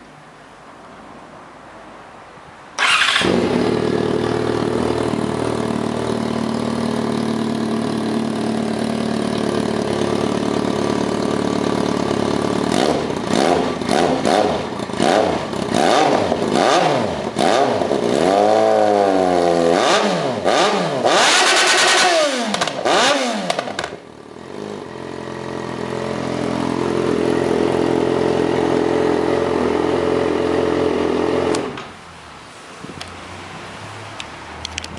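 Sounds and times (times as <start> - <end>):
motorcycle engine idling and revving: 2.8 - 32.0.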